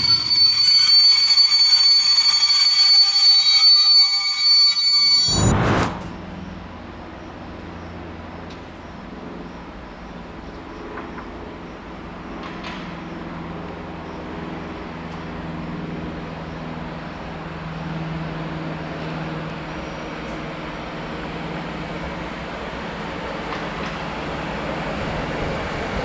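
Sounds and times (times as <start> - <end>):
wheel and rail noise: 0.0 - 8.8, 10.4 - 26.0
electric locomotive hum: 0.0 - 26.0.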